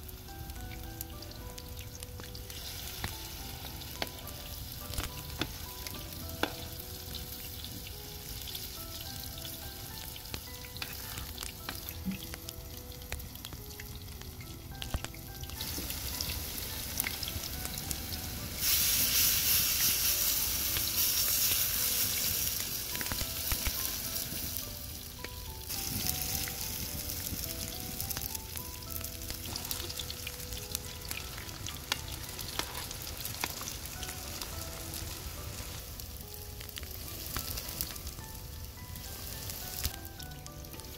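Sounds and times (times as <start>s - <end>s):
potato patties sizzling in oil: 0.0s - 40.9s.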